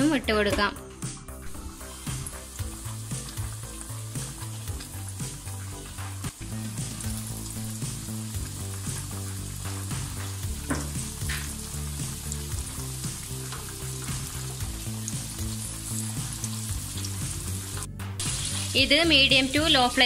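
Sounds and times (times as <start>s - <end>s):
chicken deep-frying in oil: 1.6s - 20.0s.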